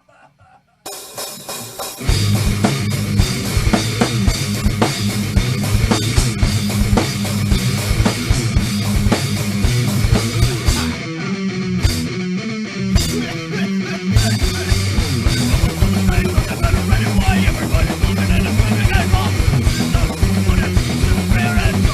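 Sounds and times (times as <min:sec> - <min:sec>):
drum kit: 0:00.9 - 0:12.3, 0:12.9 - 0:21.9
loud rock band music: 0:00.9 - 0:21.9
electric guitar: 0:01.1 - 0:21.9
bass guitar: 0:01.9 - 0:21.9.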